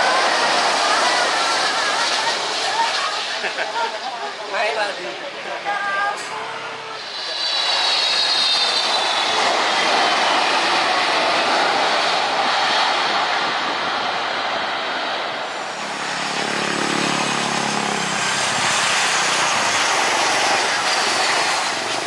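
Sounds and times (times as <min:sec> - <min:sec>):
jet airliner engine roar: 0:00.0 - 0:22.0.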